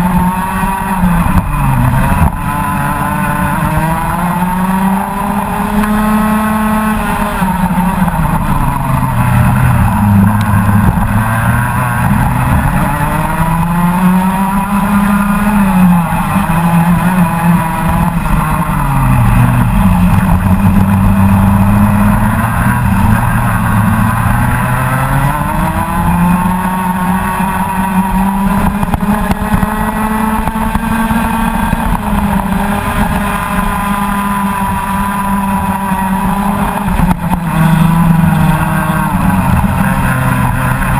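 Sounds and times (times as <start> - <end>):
kart engine at racing speed: 0.0 - 40.9.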